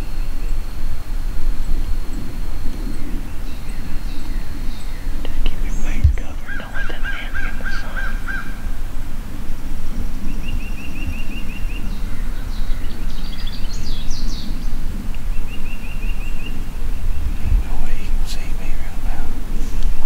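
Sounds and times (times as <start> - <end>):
birds calling and singing: 0.0 - 20.0
low rumble: 0.6 - 20.0.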